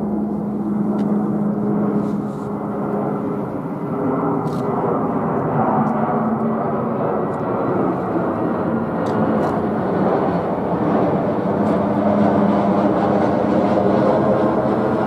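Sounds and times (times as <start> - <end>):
airliner passing low overhead: 0.0 - 15.0.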